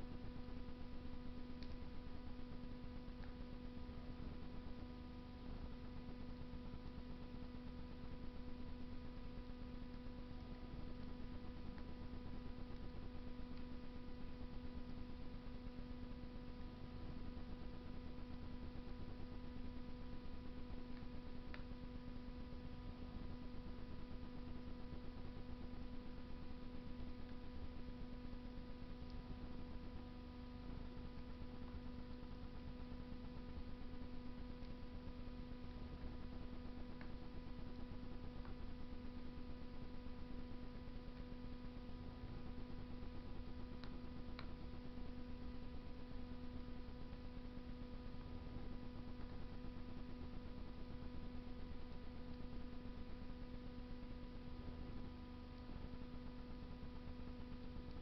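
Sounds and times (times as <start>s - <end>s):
electrical hum: 0.0s - 58.0s
wood crackling in stove: 0.0s - 58.0s.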